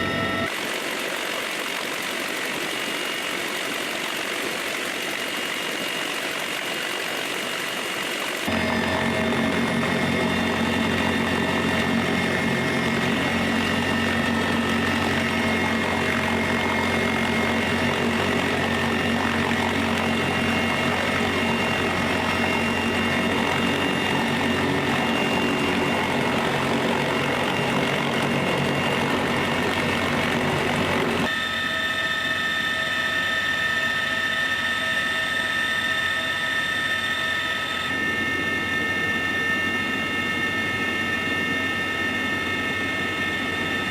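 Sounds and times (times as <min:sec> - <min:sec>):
higher-pitched engine whine: 0:00.0 - 0:43.9
turbine engines whining: 0:00.0 - 0:43.9.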